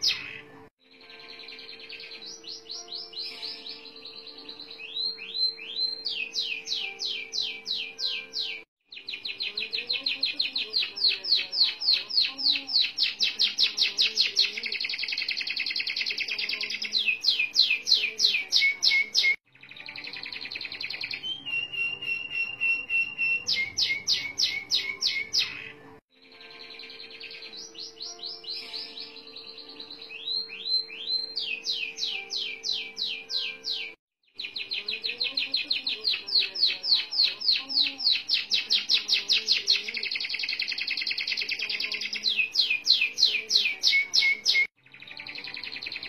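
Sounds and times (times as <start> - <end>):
canary singing trills: 0.0 - 46.0.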